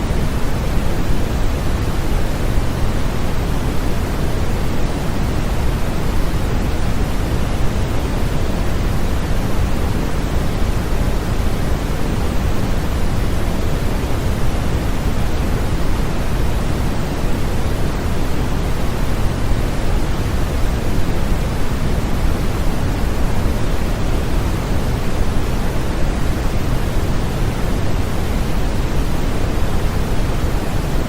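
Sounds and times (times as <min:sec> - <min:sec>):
white noise hiss: 0:00.0 - 0:31.0.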